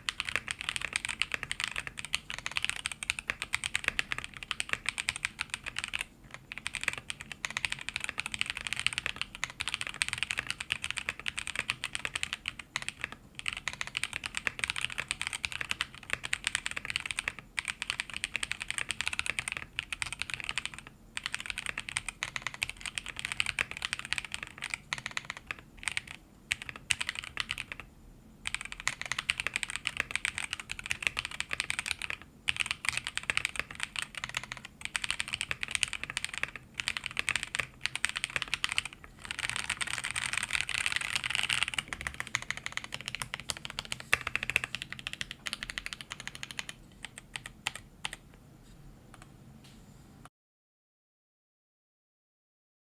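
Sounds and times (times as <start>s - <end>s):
fast typing on mechanical keyboard: 0.0s - 48.2s.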